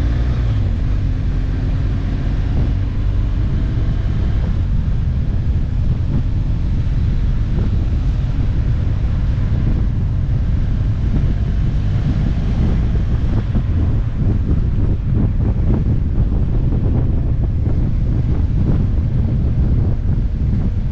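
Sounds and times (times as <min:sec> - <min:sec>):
motorcycle engine running: 0:00.0 - 0:20.9
wind noise on microphone: 0:00.0 - 0:20.9.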